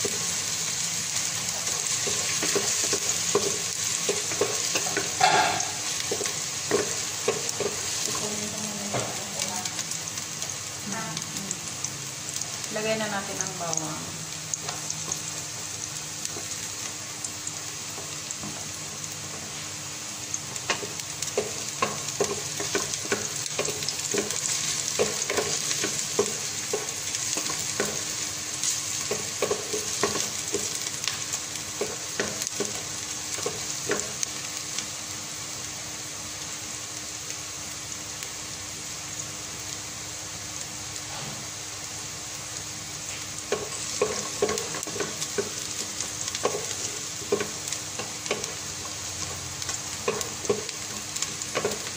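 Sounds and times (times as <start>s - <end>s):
onion and garlic sizzling in oil: 0.0s - 51.9s.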